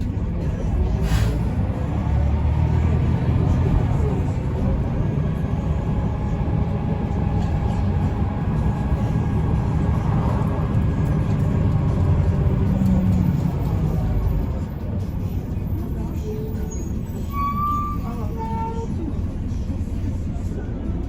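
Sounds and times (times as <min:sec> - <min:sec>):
bus engine rumble from inside: 0:00.0 - 0:21.0.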